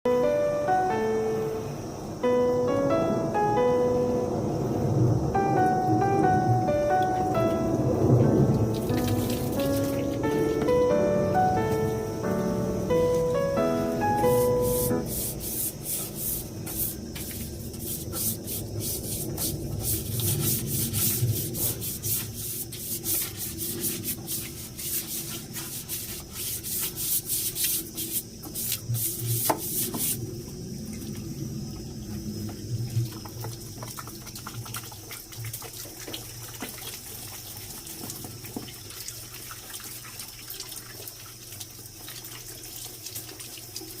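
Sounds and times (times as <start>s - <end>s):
running water splashing: 5.4s - 44.0s.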